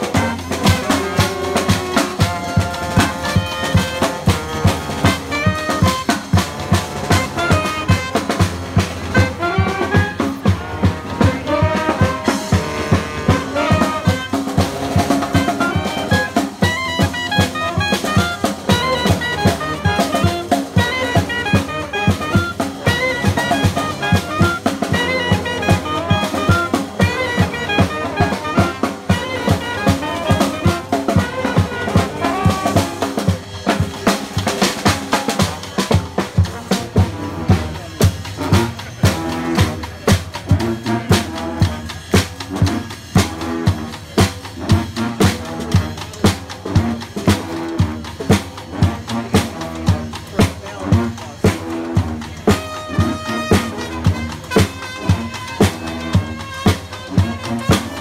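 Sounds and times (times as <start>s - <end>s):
brass band playing: 0.0s - 58.0s
snare and bass drum beat: 0.0s - 58.0s.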